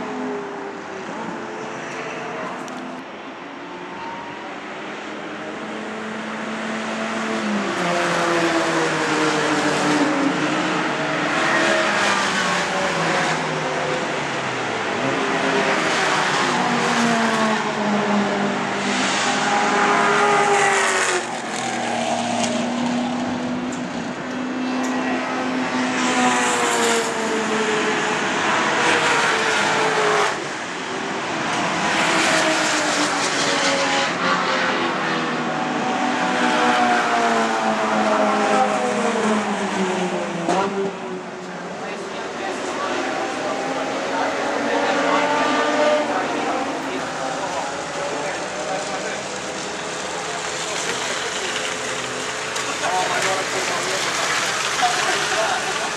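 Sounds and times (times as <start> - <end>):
race cars passing: 0.0 - 55.9.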